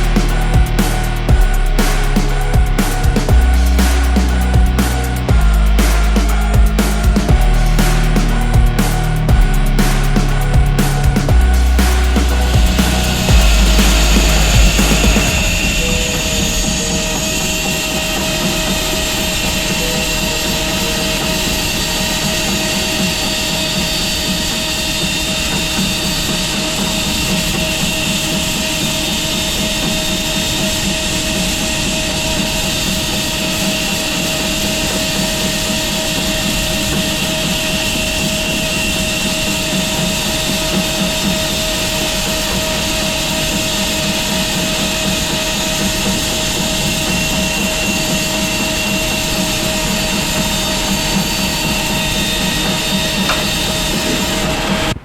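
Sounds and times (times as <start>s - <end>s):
bandsaw mill running: 0.0s - 55.0s
constant machine whine: 0.0s - 55.0s.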